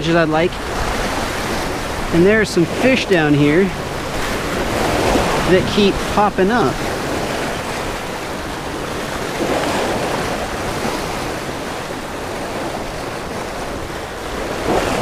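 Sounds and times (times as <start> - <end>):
surf washing over rocks: 0.0 - 15.0
wind rumbling on microphone: 0.0 - 15.0.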